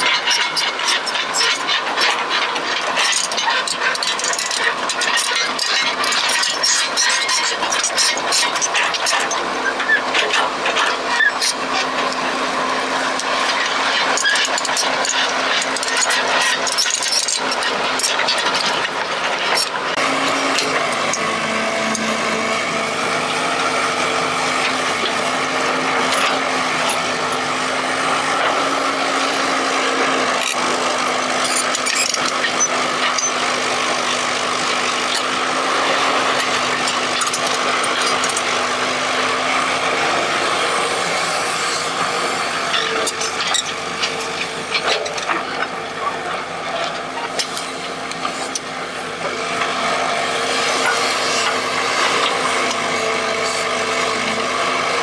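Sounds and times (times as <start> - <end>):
excavator motor drone: 0.0 - 55.0
scraping and knocking from digging: 0.0 - 55.0.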